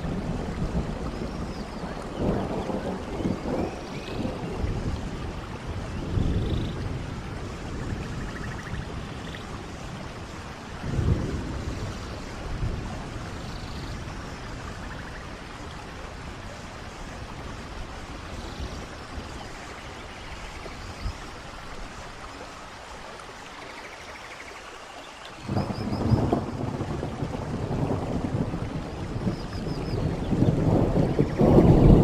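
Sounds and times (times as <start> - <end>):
rain: 0.0 - 32.0.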